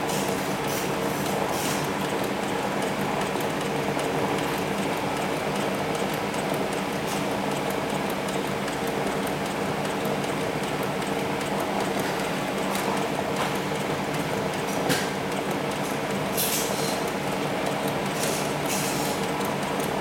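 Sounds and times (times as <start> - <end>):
industrial sewing machine running: 0.0 - 20.0.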